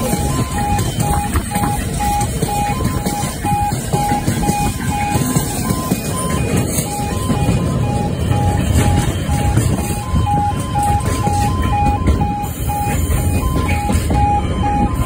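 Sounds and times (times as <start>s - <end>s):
crossing alarms beeping: 0.0s - 15.0s
freight train rumbling: 0.0s - 15.0s.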